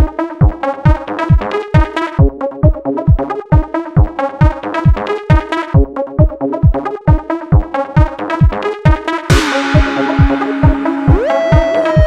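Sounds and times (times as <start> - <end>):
kick drum: 0.0 - 12.0
synthesizer chords: 0.0 - 12.0.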